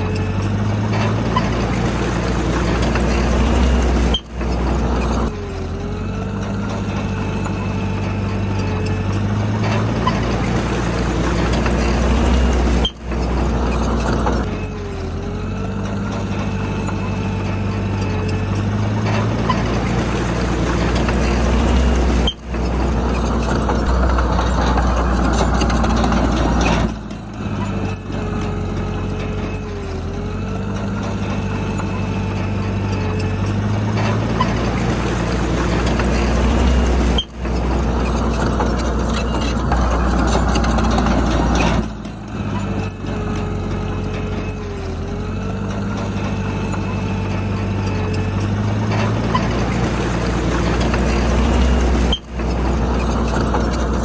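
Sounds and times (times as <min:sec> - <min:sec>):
diesel earthmoving machinery running: 0:00.0 - 0:54.0.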